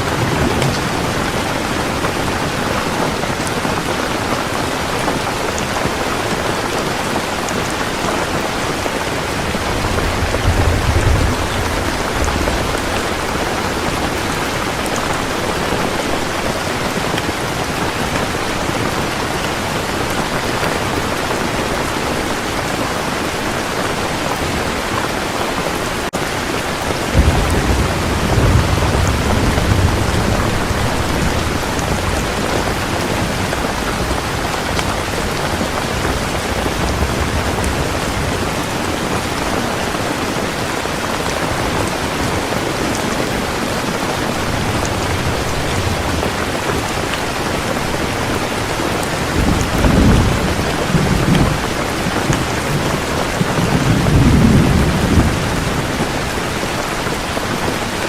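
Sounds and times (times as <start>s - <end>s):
thunder rumbling: 0.0s - 22.5s, 26.7s - 57.8s
heavy rain falling: 0.0s - 58.0s.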